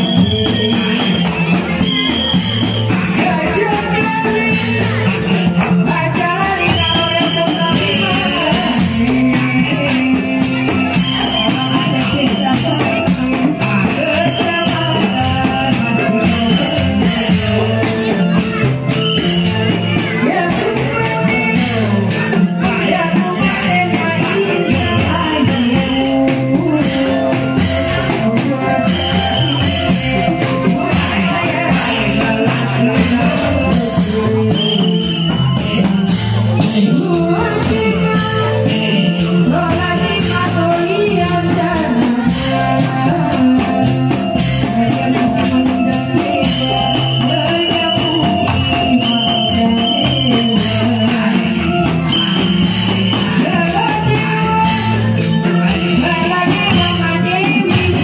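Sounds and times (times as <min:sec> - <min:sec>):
high melody line: 0:00.0 - 0:58.0
person singing: 0:00.0 - 0:58.0
steady drum beat: 0:00.0 - 0:58.0.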